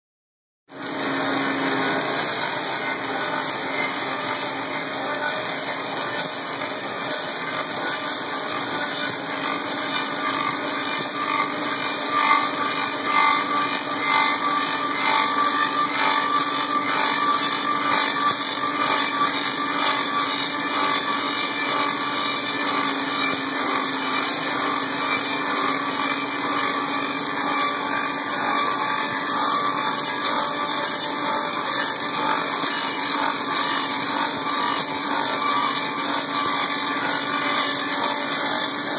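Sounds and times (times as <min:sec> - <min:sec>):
lathe cutting wood: 0:00.7 - 0:38.9.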